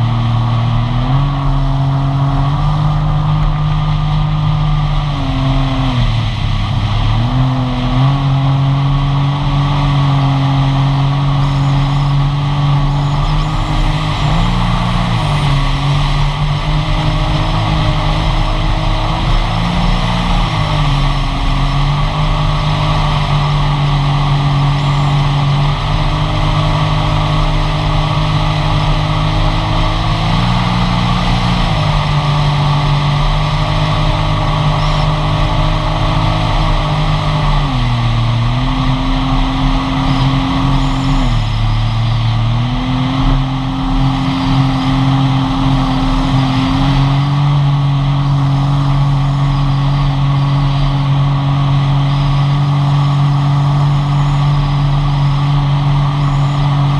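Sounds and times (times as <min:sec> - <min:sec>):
jet ski engine running: 0:00.0 - 0:56.9.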